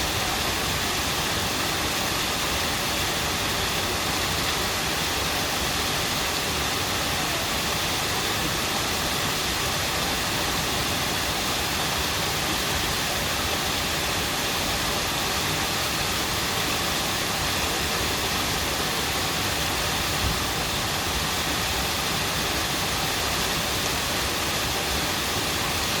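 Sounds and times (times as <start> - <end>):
stream babbling: 0.0 - 26.0.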